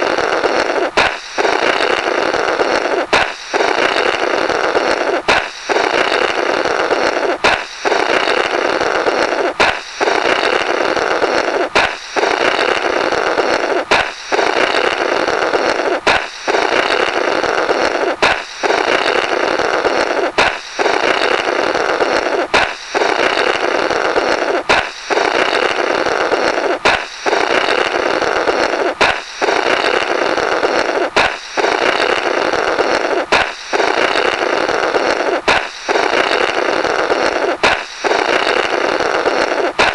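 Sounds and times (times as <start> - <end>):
balloon popping: 0.0 - 39.9
noisy blurt through rubber: 0.0 - 39.9.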